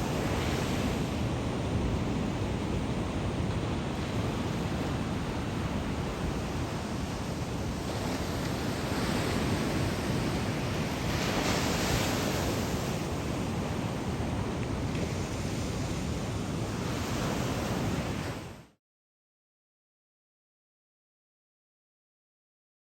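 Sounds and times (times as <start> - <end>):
ocean surf breaking: 0.0 - 18.6
wind on microphone: 0.0 - 18.7.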